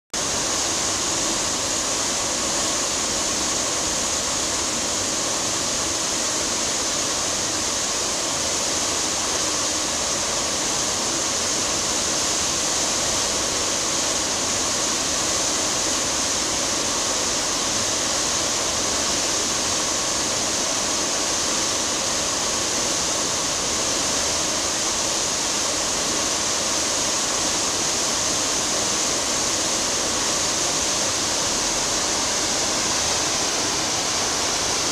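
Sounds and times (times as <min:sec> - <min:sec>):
ship wake rushing water: 0:00.2 - 0:34.9.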